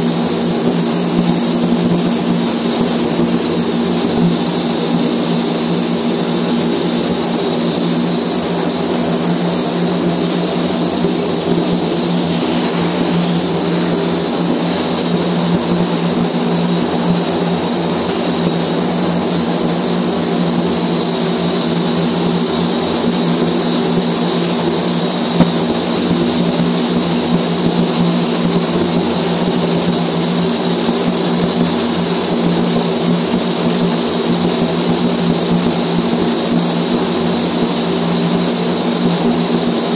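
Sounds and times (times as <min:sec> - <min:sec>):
high whine: 0:00.0 - 0:39.9.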